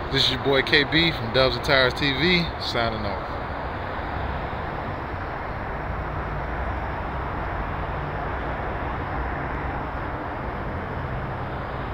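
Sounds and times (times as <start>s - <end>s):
outdoor background noise: 0.0s - 11.9s.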